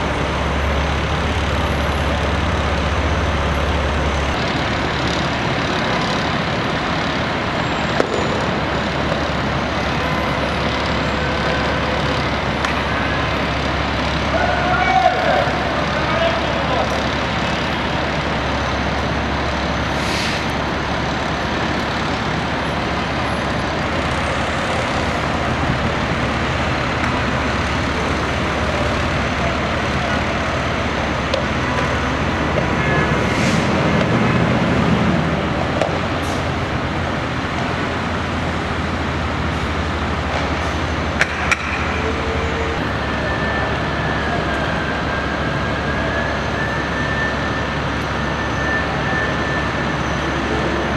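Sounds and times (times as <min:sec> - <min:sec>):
diesel engine running: 0:00.0 - 0:50.9
street traffic: 0:00.0 - 0:50.9.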